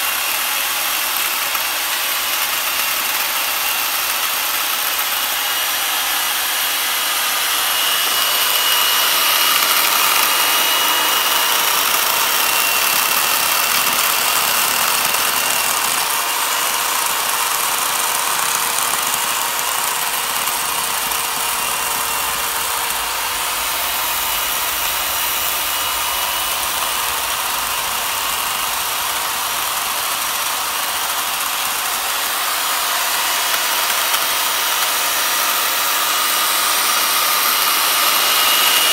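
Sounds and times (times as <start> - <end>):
electric chainsaw cutting wood: 0.0 - 38.9.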